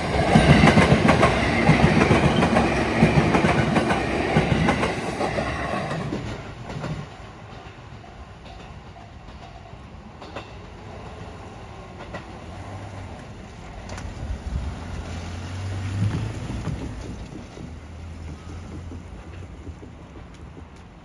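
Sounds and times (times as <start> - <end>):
train rumbling past: 0.0 - 21.0
wheels clacking over rail joints: 0.0 - 21.0.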